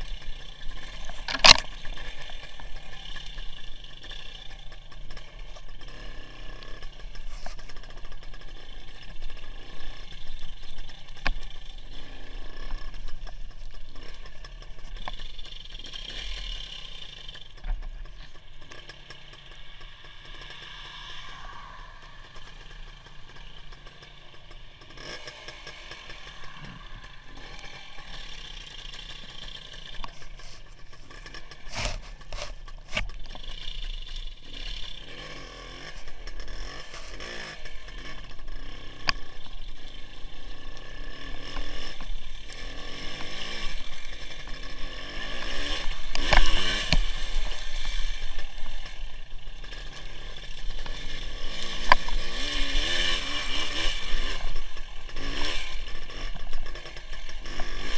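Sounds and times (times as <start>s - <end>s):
two-stroke motorcycle engine: 0.0s - 57.9s.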